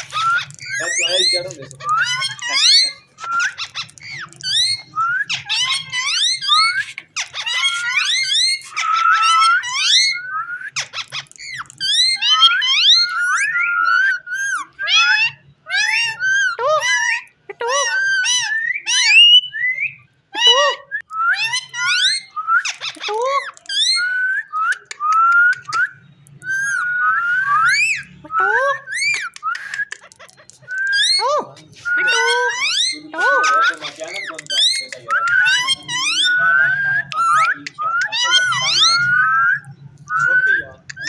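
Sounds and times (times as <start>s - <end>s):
parakeet chattering: 0.0s - 19.5s, 21.4s - 24.2s, 27.6s - 41.0s.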